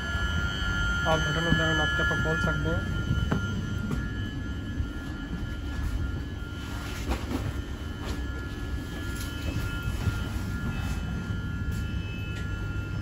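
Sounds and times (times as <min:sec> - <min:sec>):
high electrical whine: 0:00.0 - 0:13.0
train carriage rumble: 0:00.0 - 0:13.0.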